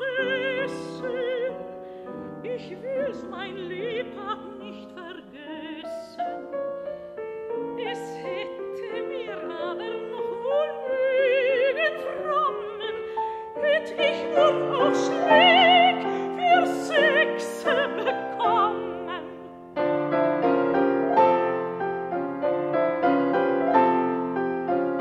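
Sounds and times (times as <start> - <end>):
piano accompaniment: 0.0 - 25.0
soprano singing: 0.0 - 25.0.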